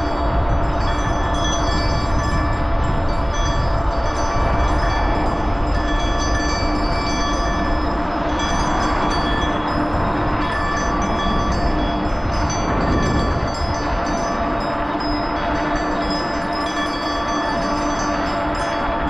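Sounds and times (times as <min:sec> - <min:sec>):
bicycle road noise: 0:00.0 - 0:19.0
wind rumble: 0:00.0 - 0:19.0.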